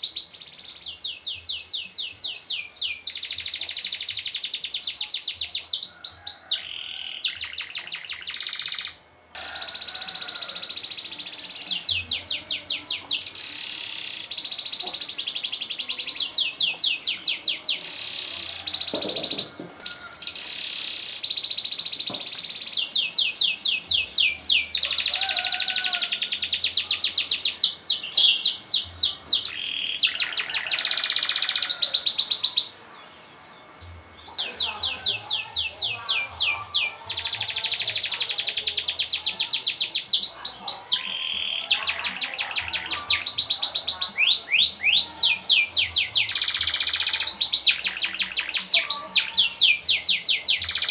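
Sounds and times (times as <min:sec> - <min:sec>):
canary singing trills: 0:00.0 - 0:50.9.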